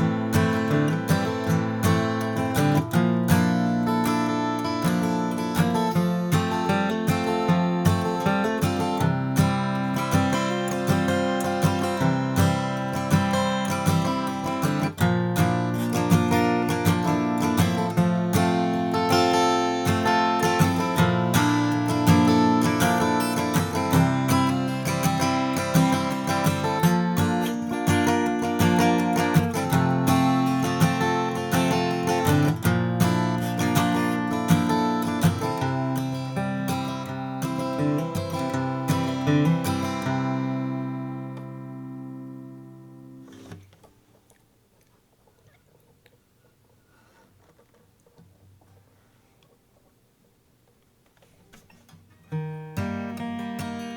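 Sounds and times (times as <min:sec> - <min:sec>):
acoustic guitar picking: 0:00.0 - 0:44.2, 0:51.2 - 0:53.9.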